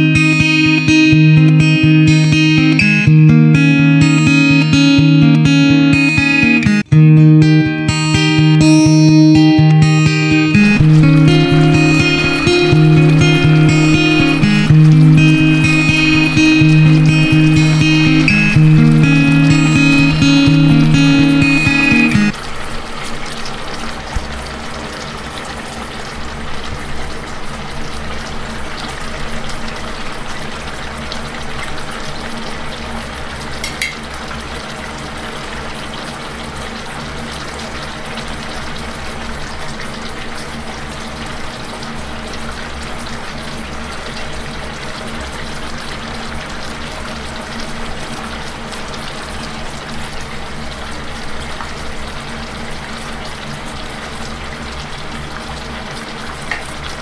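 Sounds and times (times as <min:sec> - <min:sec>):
sauce simmering in a pan: 0:09.9 - 0:57.0.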